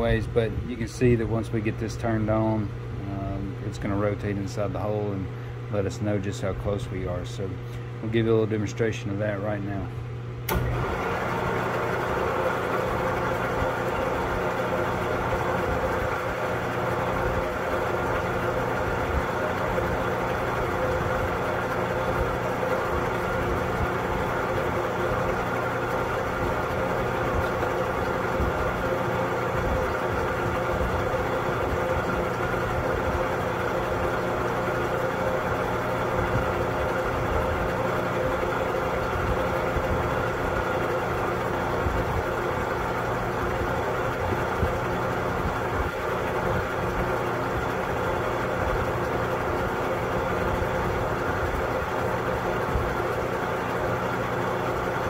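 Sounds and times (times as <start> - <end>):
drill press running: 10.4 - 55.0.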